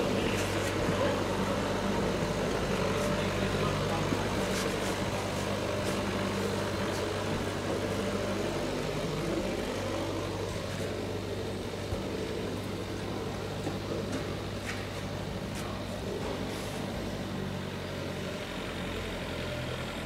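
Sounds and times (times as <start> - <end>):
motor humming: 0.0 - 18.2.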